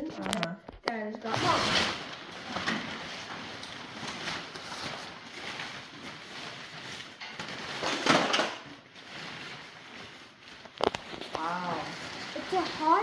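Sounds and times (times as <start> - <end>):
cover rustling off motorbike: 1.3 - 13.0.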